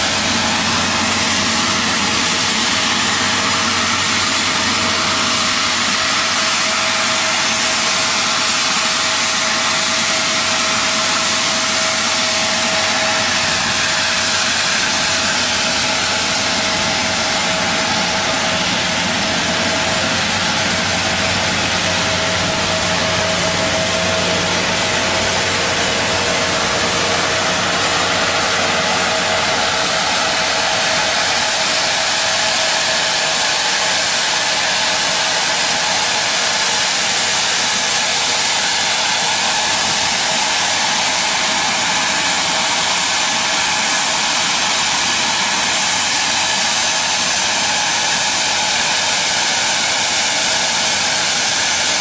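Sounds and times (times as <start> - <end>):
mid-pitched whine: 0.0 - 42.2
machinery rushing noise: 0.0 - 52.0.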